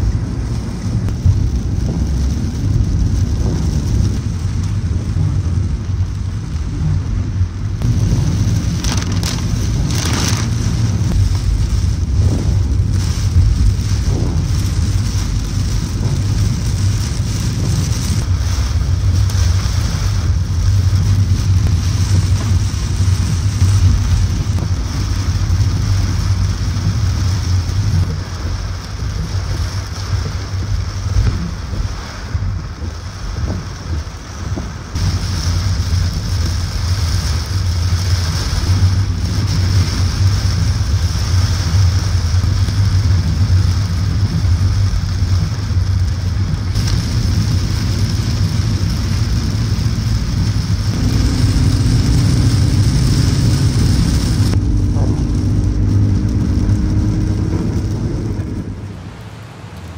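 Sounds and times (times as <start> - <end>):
low engine hum: 0.0 - 59.9
rain and spray hissing: 0.0 - 59.9
tyres rumbling on wet road: 0.0 - 59.9.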